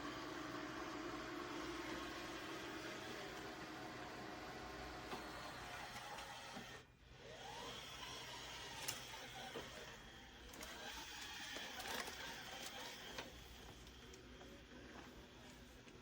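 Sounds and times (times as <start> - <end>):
robot vacuum whine: 0.0 - 15.8.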